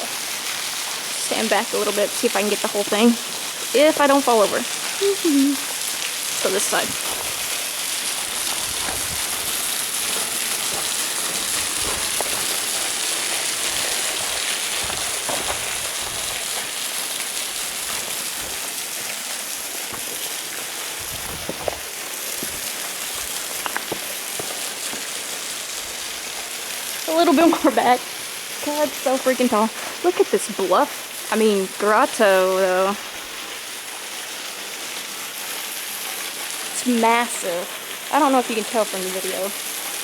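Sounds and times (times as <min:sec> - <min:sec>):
waterfall hissing: 0:00.0 - 0:40.0.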